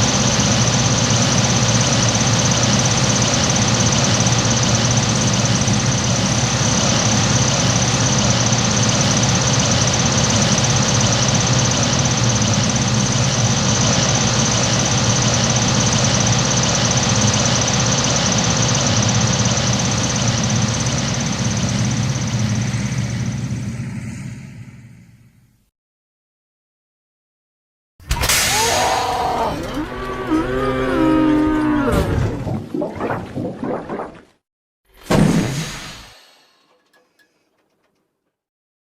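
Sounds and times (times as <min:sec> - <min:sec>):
deep engine drone: 0:00.0 - 0:25.7, 0:28.2 - 0:34.2.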